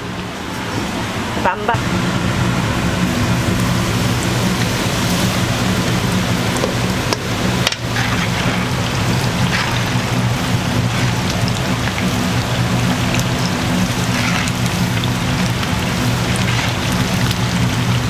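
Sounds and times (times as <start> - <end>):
low hum: 0.0 - 18.0
chicken sizzling in hot oil: 1.8 - 18.0.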